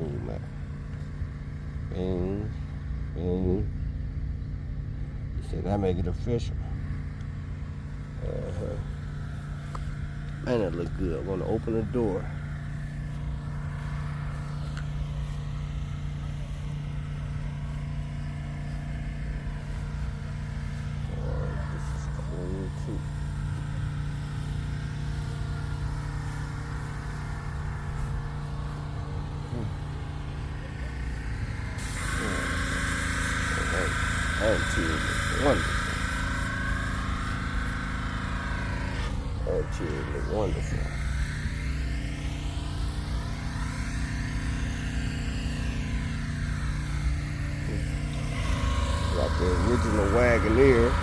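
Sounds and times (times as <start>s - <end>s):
vehicle engine idling: 0.0s - 51.0s.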